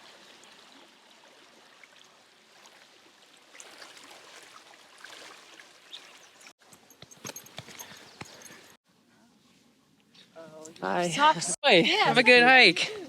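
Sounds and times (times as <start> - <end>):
creek water flowing: 0.0 - 8.8, 10.0 - 13.0.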